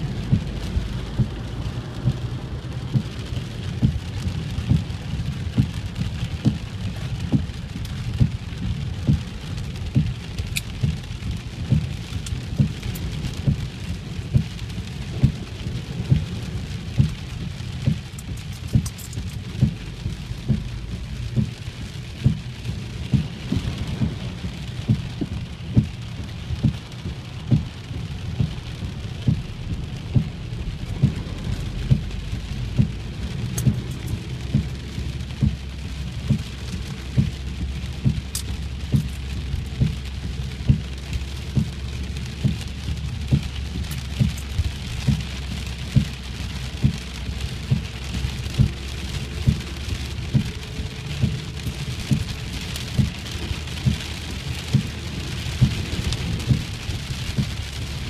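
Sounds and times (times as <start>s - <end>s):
heavy rain on a car: 0.0s - 58.0s.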